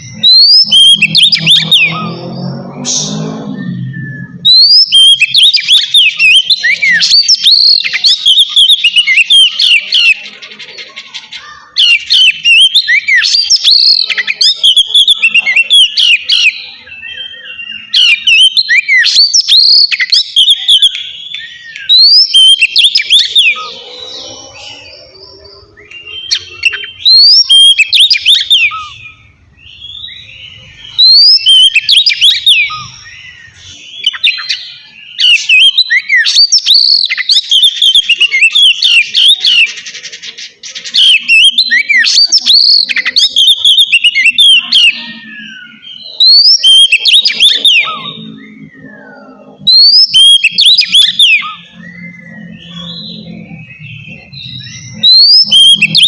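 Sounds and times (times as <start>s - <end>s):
bird singing whistled phrases: 0.0s - 10.3s, 11.4s - 56.0s.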